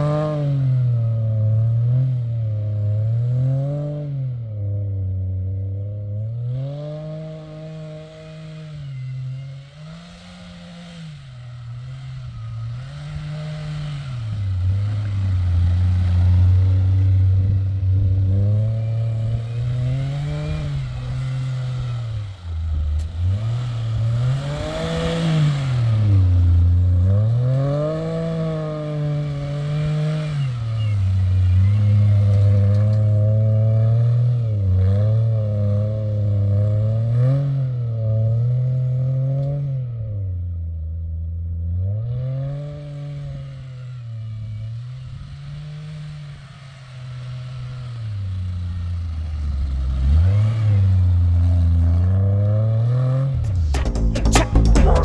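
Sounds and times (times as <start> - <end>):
car engine revving: 0.0 - 40.2, 41.6 - 55.0.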